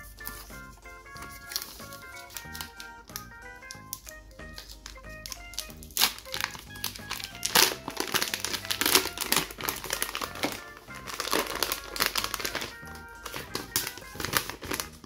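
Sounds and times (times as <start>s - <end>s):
foil wrapper crinkling: 0.0s - 15.0s
light background music: 0.0s - 15.0s.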